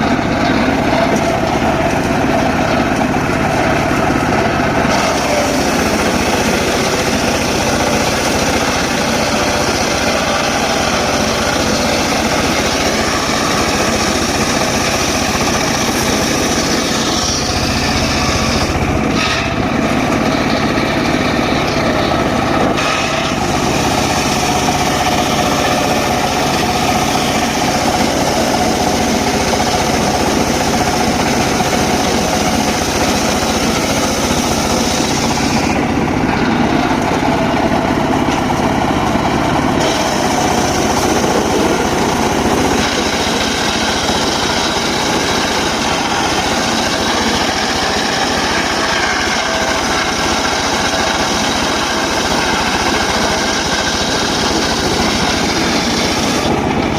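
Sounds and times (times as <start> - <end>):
circular sawmill sawing wood: 0.0 - 56.9.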